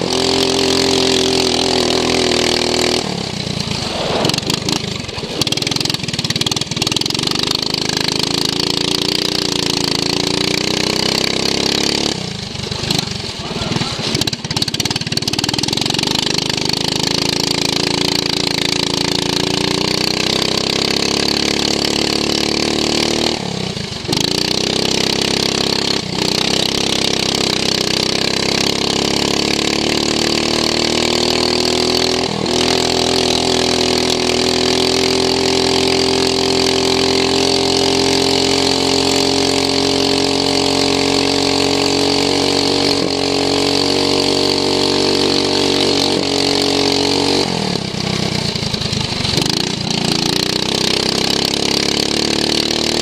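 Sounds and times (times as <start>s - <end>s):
lawn mower engine running hard: 0.0s - 53.0s.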